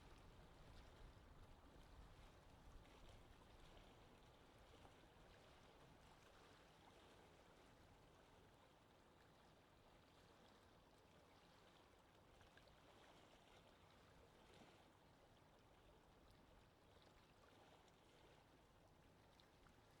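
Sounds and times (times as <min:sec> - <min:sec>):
water lapping softly: 0:00.0 - 0:20.0
wind: 0:00.0 - 0:20.0.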